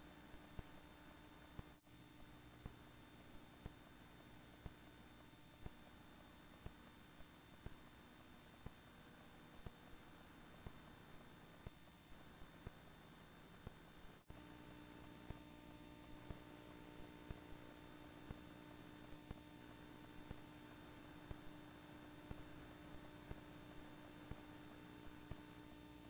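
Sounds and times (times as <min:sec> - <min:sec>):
faint hum and hiss: 0:00.0 - 0:26.0.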